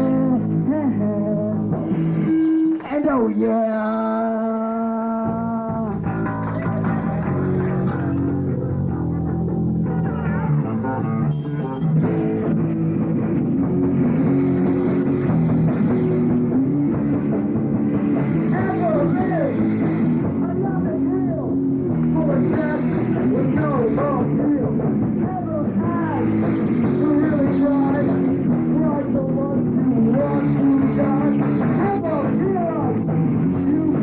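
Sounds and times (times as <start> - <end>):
rock band playing: 0.0 - 4.4, 5.2 - 34.0
electric guitar lead with bent notes: 0.0 - 34.0.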